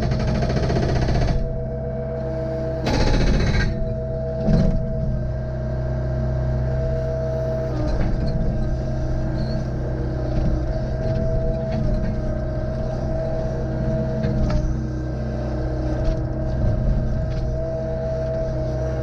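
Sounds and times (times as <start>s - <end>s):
engine whine: 0.0s - 19.0s
excavator diesel engine running: 0.0s - 19.0s.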